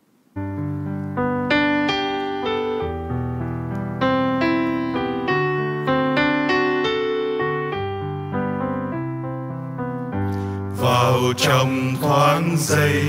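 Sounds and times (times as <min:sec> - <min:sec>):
digital piano playing hymn chords: 0:00.3 - 0:13.0.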